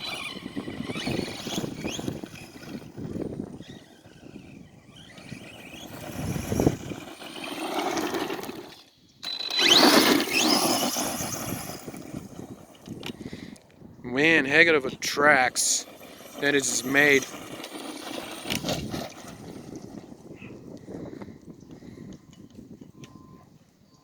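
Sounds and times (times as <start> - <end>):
rc truck motor whining: 0.0 - 23.6.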